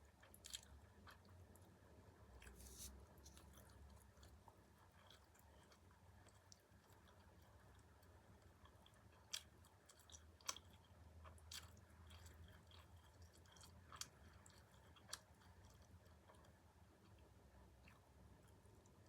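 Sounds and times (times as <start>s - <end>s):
person chewing food: 0.0s - 1.8s, 2.4s - 19.0s.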